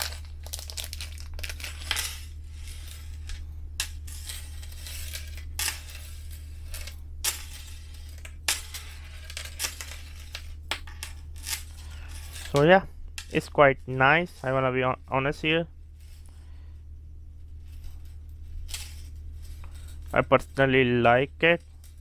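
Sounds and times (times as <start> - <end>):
metal chain clinking: 0.0 - 14.6, 17.5 - 20.6
steady low hum: 0.0 - 22.0.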